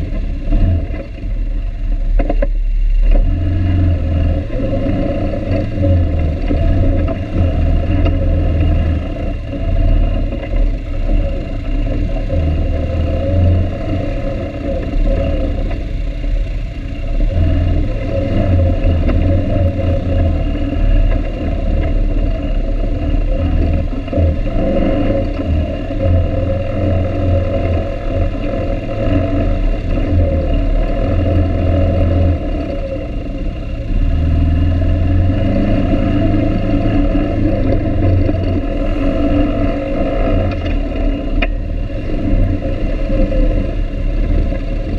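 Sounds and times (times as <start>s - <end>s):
atv engine droning: 0.0s - 44.9s.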